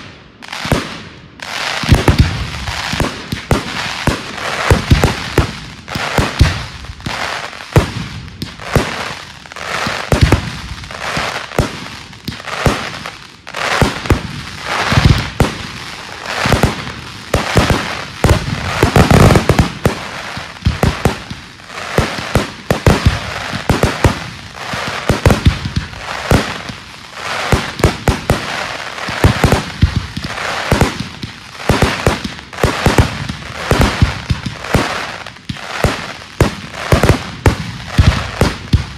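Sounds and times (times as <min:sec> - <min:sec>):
fireworks bursts and bangs: 0:00.0 - 0:38.9
fireworks crackling: 0:00.0 - 0:38.9.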